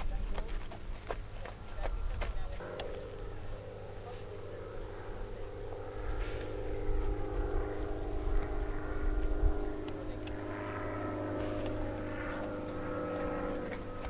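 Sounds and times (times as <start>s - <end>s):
engine drone with low rumble: 0.0s - 14.0s.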